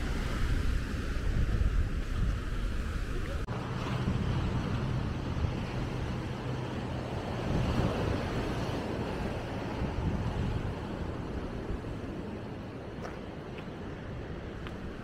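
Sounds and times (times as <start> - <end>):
ocean surf: 0.0 - 15.0
road traffic: 0.0 - 15.0
wind on microphone: 0.0 - 15.0
faint engine hum: 1.7 - 15.0.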